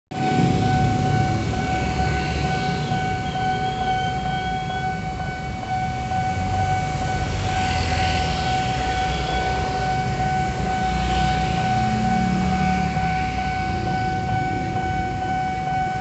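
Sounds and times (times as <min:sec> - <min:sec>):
car crossing tracks: 0:00.1 - 0:16.0
level crossing alarm tone: 0:00.1 - 0:16.0
motorcycles rumbling: 0:00.1 - 0:16.0.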